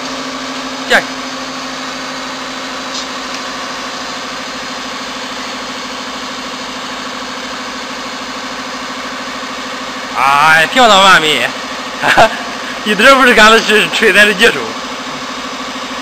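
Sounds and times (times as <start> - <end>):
hydraulic power unit humming: 0.0 - 16.0.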